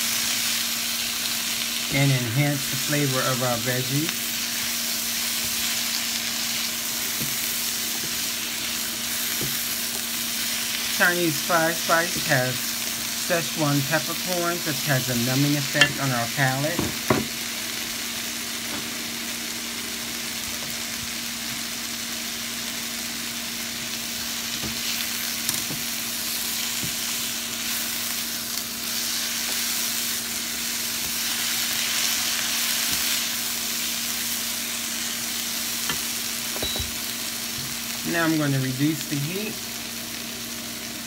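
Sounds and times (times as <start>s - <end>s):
vegetables sizzling in frying pan: 0.0s - 41.0s.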